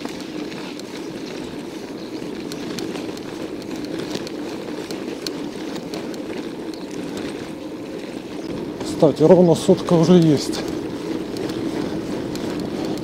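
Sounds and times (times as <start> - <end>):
bike tyre noise: 0.0 - 13.0.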